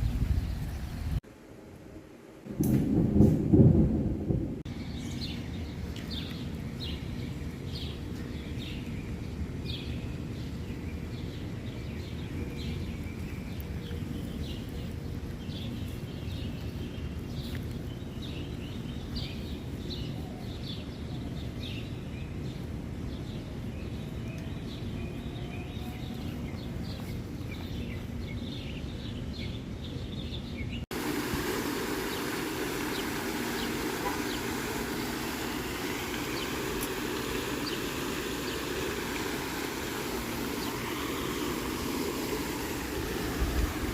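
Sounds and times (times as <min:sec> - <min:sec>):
small birds chirping: 0:04.7 - 0:43.9.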